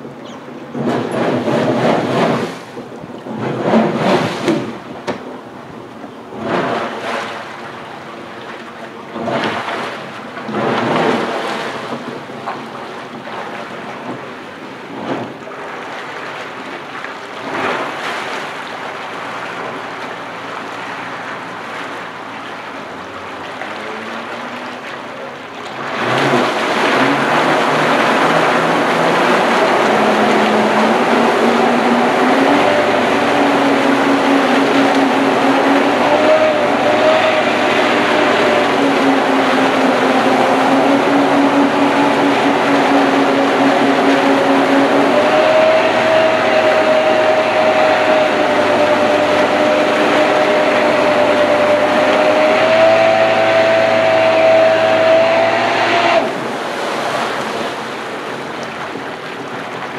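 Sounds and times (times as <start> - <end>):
jet ski engine revving: 0.0 - 59.8
water stream rushing: 0.0 - 59.9.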